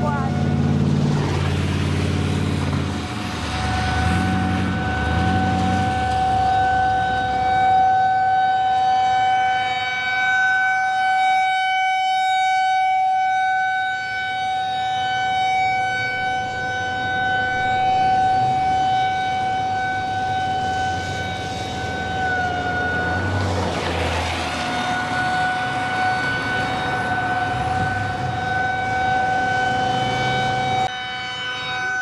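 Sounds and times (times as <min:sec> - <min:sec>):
warning siren steady tone: 0:00.0 - 0:01.4, 0:02.1 - 0:32.0.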